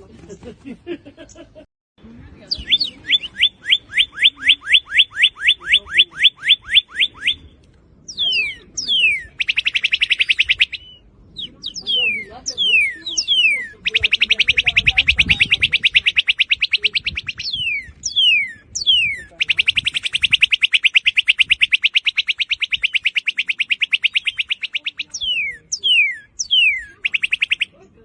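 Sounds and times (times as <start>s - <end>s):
cardinal trilling: 2.5s - 28.0s
loud downward-slurred whistles: 2.6s - 27.8s.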